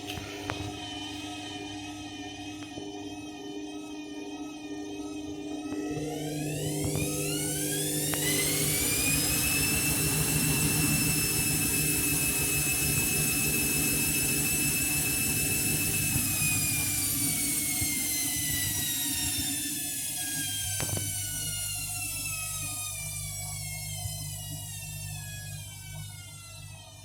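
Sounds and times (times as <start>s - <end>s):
washing machine spinning: 0.0s - 27.0s.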